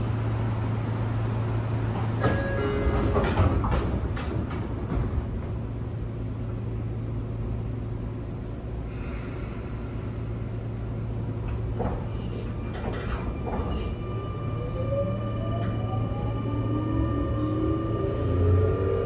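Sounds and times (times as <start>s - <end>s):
train car low hum: 0.0s - 19.0s
train rumble: 0.0s - 19.0s.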